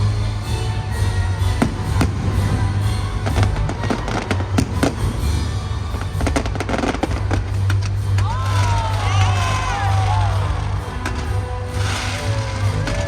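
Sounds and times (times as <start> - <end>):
fireworks crackling: 1.5 - 13.0
fireworks bangs: 1.6 - 13.0.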